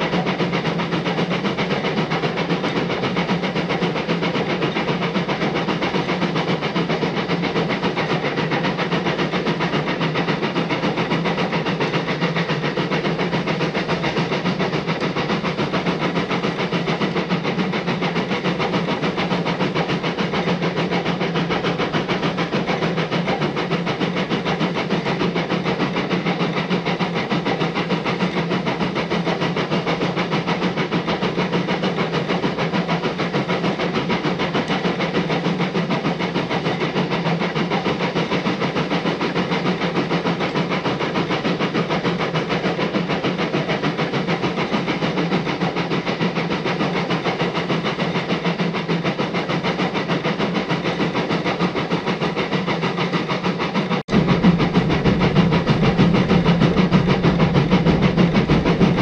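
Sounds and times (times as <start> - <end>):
steam hissing: 0.0 - 59.0
steam locomotive chuffing: 0.0 - 59.0
train running on rails: 0.0 - 59.0.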